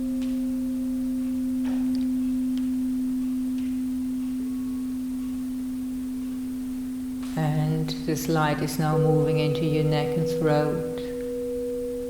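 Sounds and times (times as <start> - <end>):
higher sustained tone: 0.0 - 12.0
sustained drone tone: 0.0 - 12.0.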